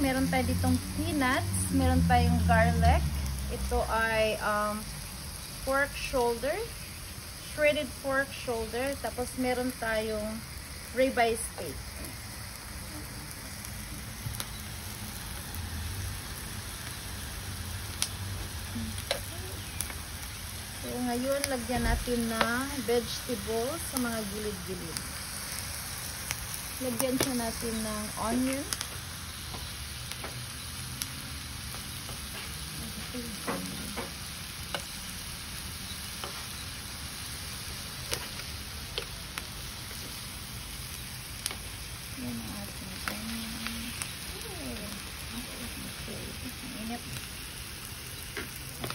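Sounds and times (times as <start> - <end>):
meat sizzling on grill pan: 0.0 - 48.9.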